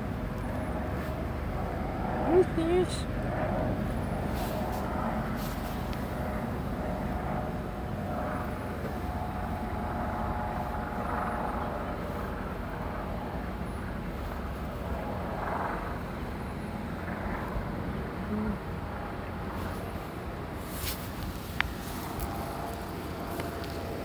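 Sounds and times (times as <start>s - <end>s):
distant traffic hum: 0.0s - 24.0s
outdoor rumble: 0.0s - 24.0s.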